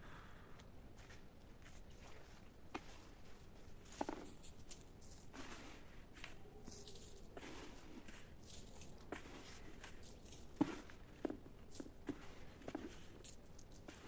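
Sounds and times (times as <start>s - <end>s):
sand crunching and scraping: 1.0s - 14.0s.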